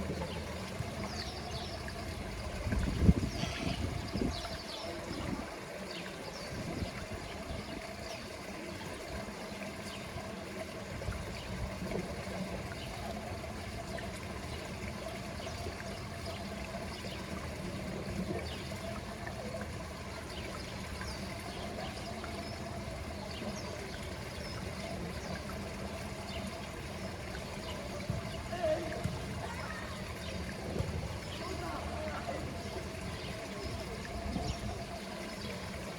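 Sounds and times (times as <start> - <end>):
water trickling: 0.0 - 35.9.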